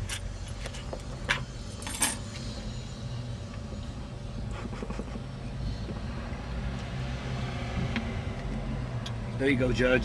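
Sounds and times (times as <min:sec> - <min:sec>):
vehicle rumble from inside cabin: 0:00.0 - 0:10.0.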